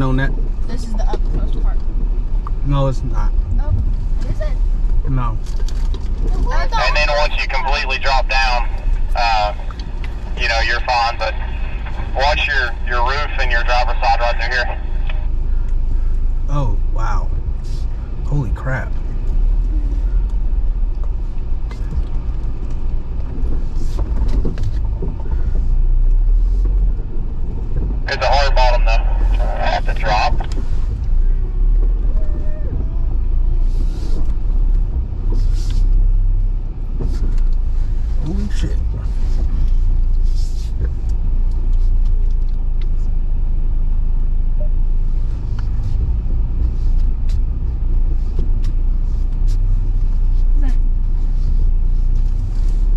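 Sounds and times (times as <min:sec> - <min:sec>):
low engine rumble: 0:00.0 - 0:52.9.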